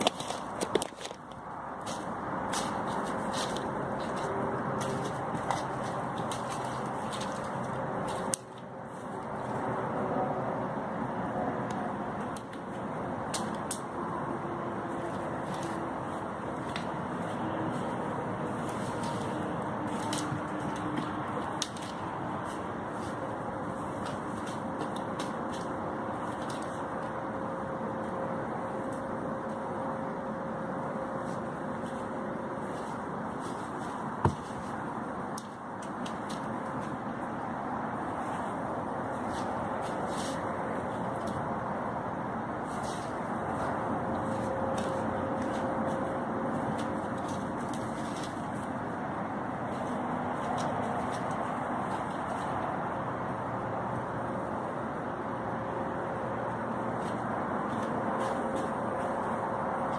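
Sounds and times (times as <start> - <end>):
steady rumbling noise: 0.0 - 59.9
steady rushing noise: 0.0 - 59.9.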